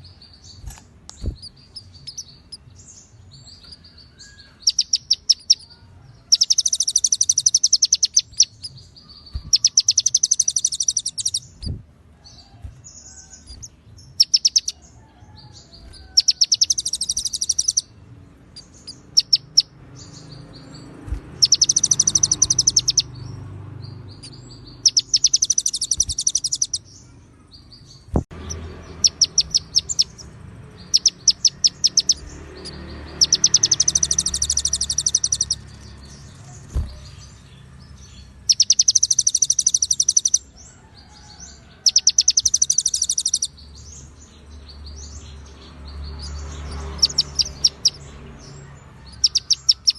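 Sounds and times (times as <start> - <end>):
songbird trilling: 0.0 - 17.9, 18.5 - 49.9.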